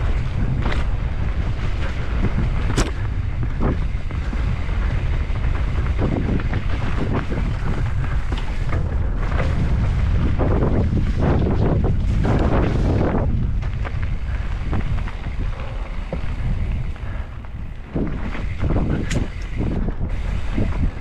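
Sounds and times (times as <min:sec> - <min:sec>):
low rumble: 0:00.0 - 0:21.0
wind buffeting microphone: 0:00.0 - 0:21.0.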